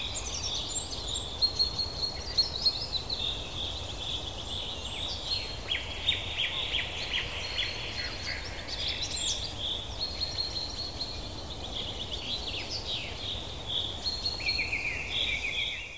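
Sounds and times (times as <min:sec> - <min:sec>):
songbirds singing: 0:00.0 - 0:15.9.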